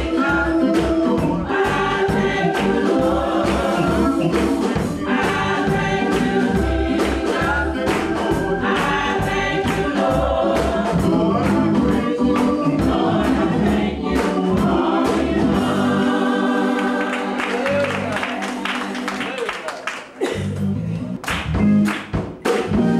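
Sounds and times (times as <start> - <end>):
gospel choir singing: 0.0 - 19.2
band playing a steady beat: 0.0 - 19.3, 20.0 - 22.9.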